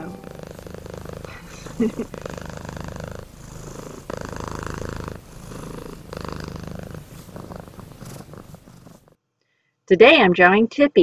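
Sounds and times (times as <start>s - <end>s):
cat purring: 0.0s - 9.2s.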